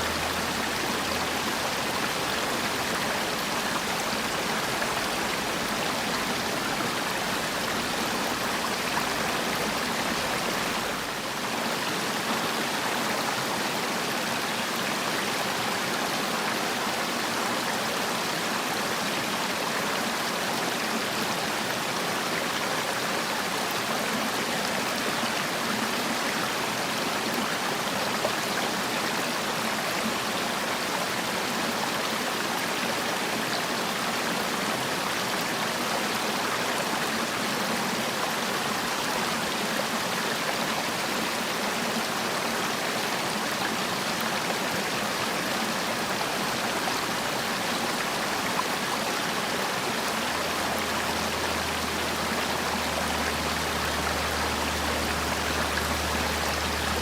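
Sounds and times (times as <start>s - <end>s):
stream flowing water: 0.0s - 57.0s.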